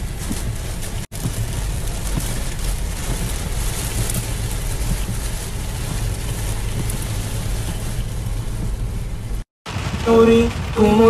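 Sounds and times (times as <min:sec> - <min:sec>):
rain hissing on windscreen: 0:00.0 - 0:11.0
tyres and engine rumbling: 0:00.0 - 0:11.0.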